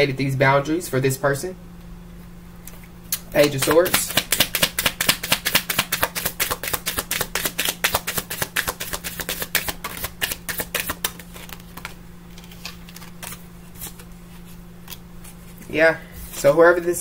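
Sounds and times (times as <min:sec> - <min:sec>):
cards being shuffled: 0:02.7 - 0:16.6.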